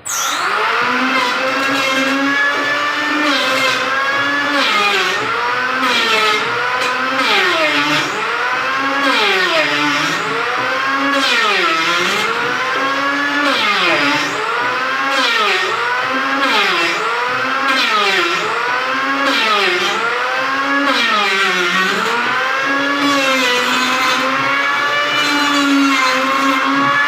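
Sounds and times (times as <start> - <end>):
wood planer motor under load: 0.0 - 27.0.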